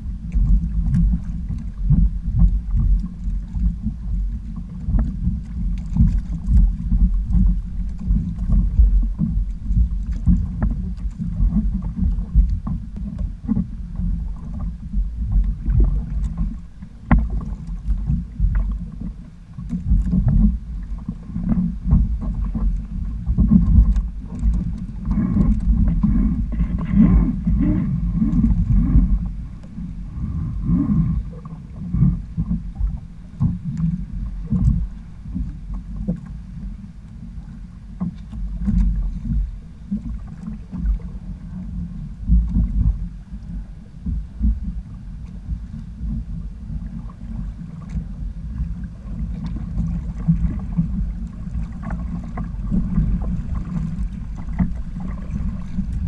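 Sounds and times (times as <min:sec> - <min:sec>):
water slapping against kayak hull: 0:00.0 - 0:56.0
wind rumbling on microphone: 0:00.0 - 0:56.0.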